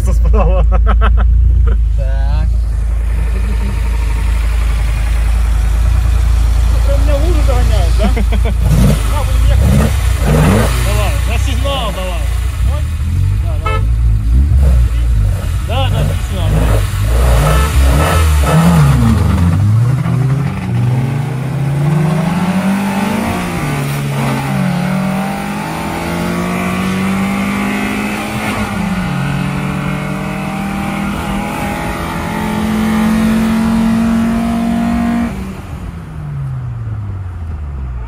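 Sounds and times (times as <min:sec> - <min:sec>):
car engine accelerating hard: 0:00.8 - 0:38.0.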